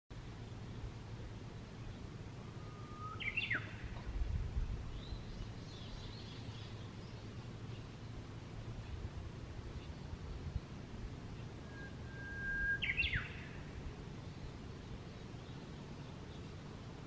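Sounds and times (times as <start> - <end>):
low outdoor rumble: 0.1 - 17.0.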